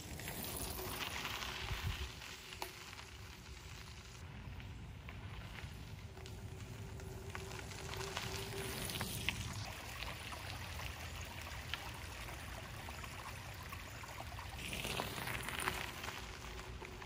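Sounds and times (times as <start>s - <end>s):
bicycle rolling over gravel: 0.0s - 17.0s.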